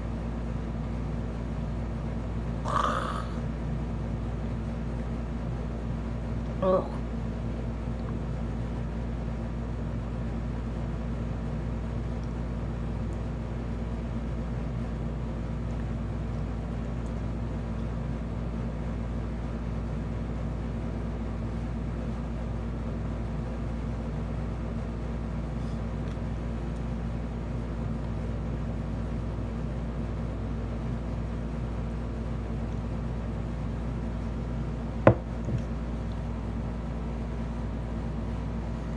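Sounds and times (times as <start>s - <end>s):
low room hum: 0.0s - 38.9s.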